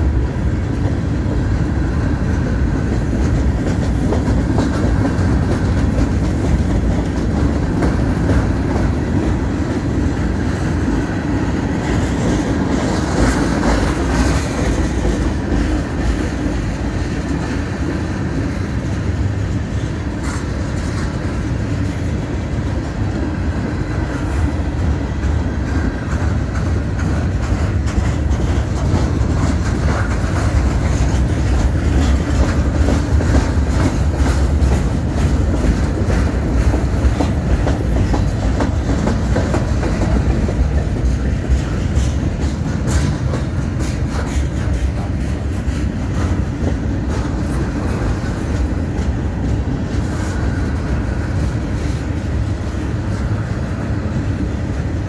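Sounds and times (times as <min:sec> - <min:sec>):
freight train rumbling past: 0:00.0 - 0:55.0
wheels clacking over rail joints: 0:00.0 - 0:55.0.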